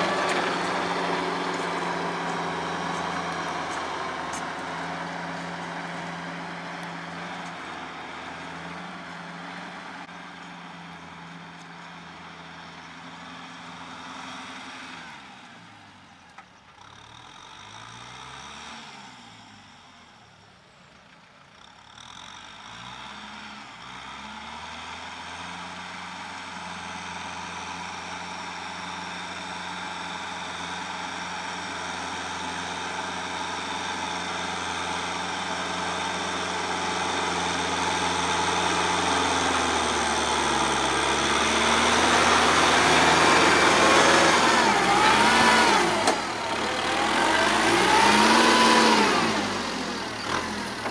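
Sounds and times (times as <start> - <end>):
tractor diesel engine running: 0.0 - 18.3, 19.4 - 50.9.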